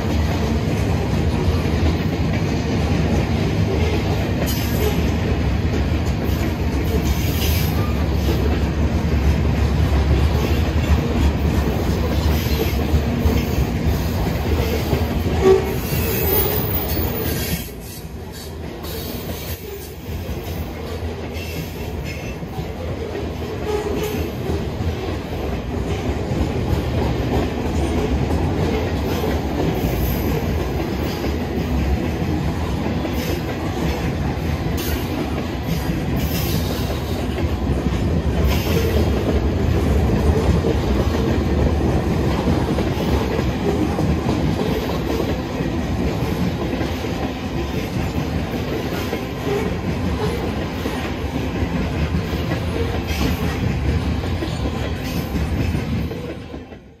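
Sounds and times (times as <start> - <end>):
freight train rumbling: 0.0 - 57.0.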